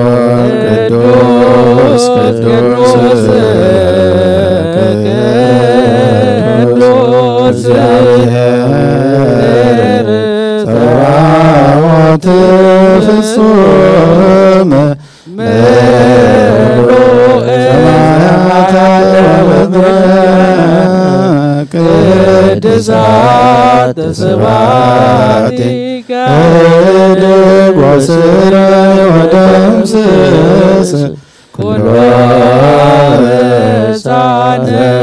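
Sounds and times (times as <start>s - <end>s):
liturgical chanting: 0.0s - 35.0s.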